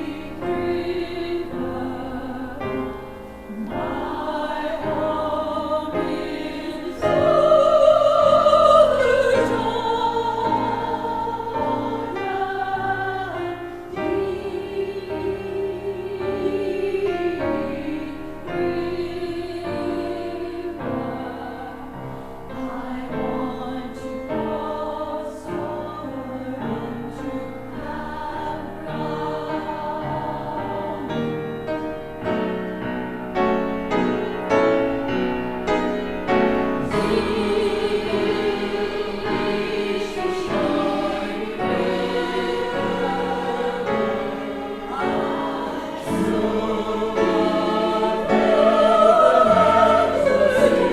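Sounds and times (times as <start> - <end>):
choir singing: 0.0 - 50.9
instrumental accompaniment: 0.0 - 50.9.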